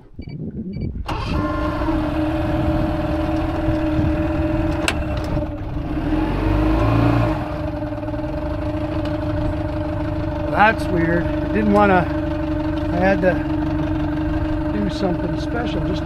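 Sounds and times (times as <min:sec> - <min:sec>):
motor low rumble: 0:00.0 - 0:16.0
outboard motor idling: 0:01.0 - 0:16.0.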